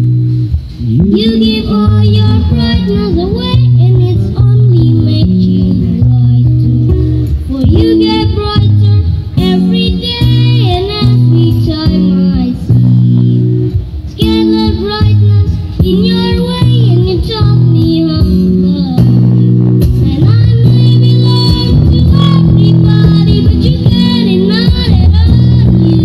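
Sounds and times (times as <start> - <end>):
strummed acoustic guitar: 0.0 - 26.0
person singing: 0.8 - 26.0.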